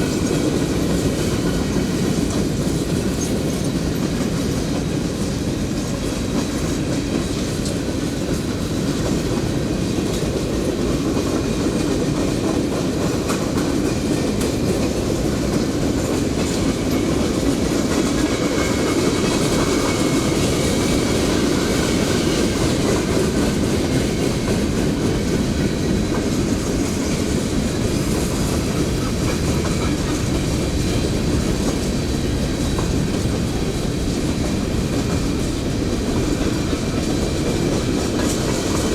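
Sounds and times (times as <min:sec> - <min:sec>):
freight train wheels clicking: 0:00.0 - 0:38.9.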